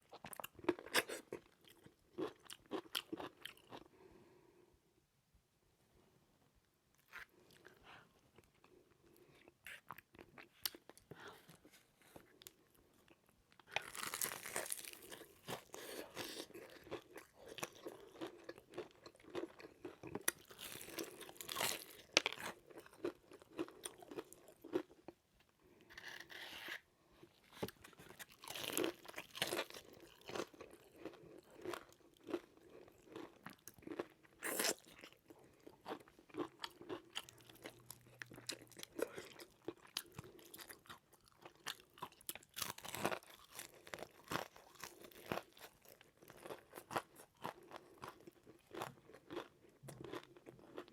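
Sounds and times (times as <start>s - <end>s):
crunchy chewing of fried chicken: 0.0s - 4.1s, 7.0s - 50.9s.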